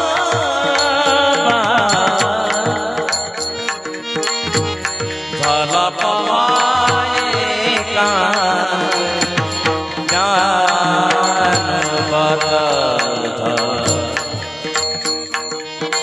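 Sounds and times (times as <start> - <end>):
voices singing: 0.0 - 16.0.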